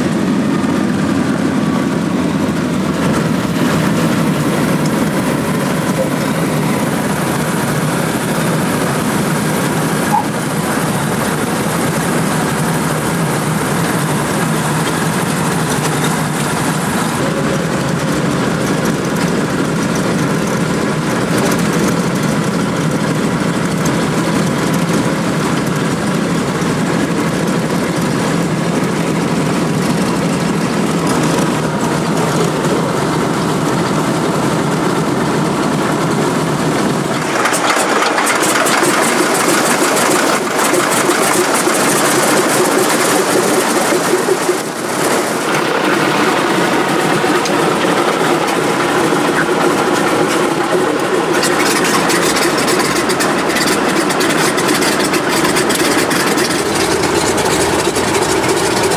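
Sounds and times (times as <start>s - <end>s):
aircraft engines droning: 0.0s - 58.9s.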